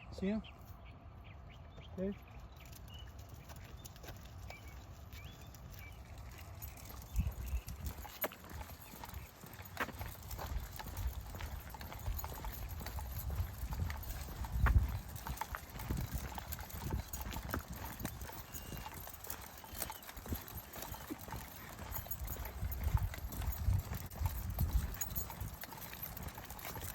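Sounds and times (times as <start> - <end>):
footsteps on dirt trail: 3.1 - 26.9.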